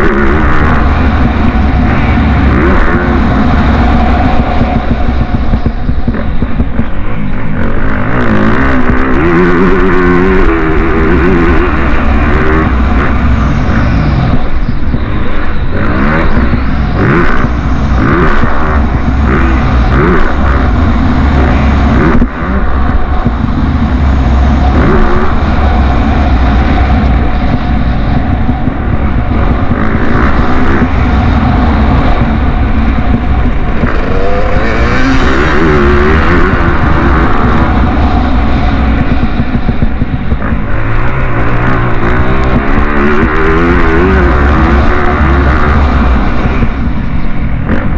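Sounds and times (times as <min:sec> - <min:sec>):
motorcycle engines revving: 0:00.0 - 0:47.9.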